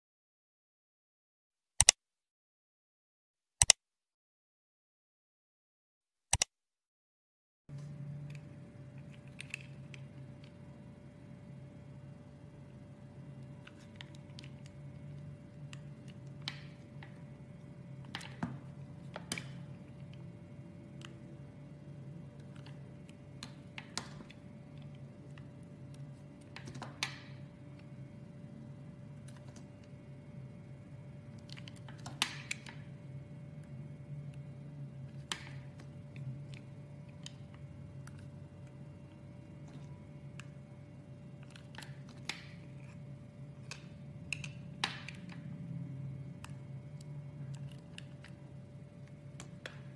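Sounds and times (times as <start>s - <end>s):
steady low hum: 7.7s - 49.9s.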